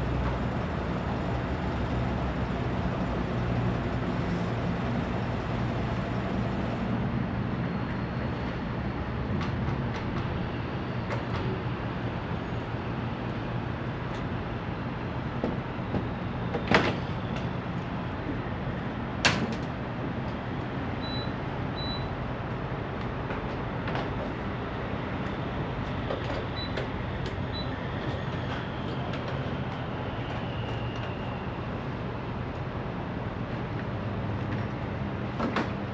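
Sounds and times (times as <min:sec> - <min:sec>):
truck engine drone and road noise: 0:00.0 - 0:35.9.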